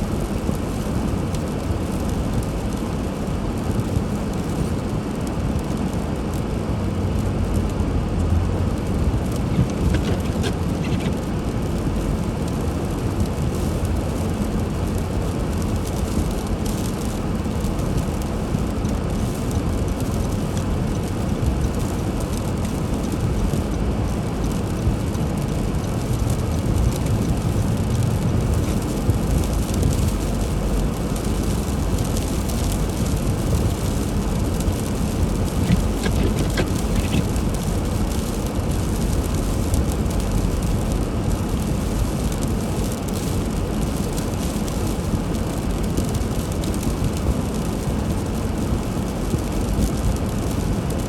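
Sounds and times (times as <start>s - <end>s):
car driving rumble: 0.0s - 51.0s.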